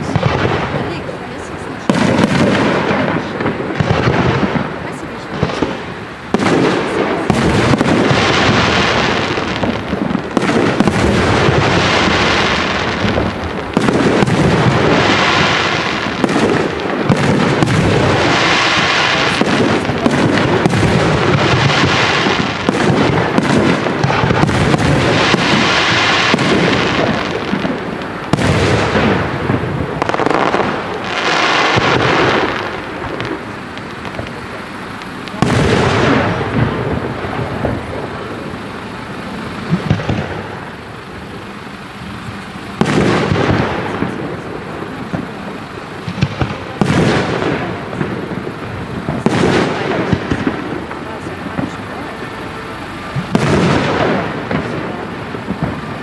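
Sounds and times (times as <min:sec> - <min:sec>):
fireworks booming: 0:00.0 - 0:56.0
hissing crackle of fireworks: 0:00.0 - 0:56.0.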